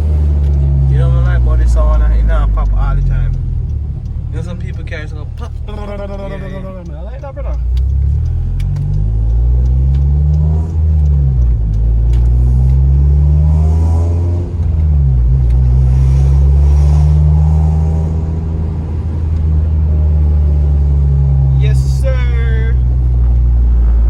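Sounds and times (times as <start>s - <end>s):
car engine and exhaust running: 0.0s - 24.0s.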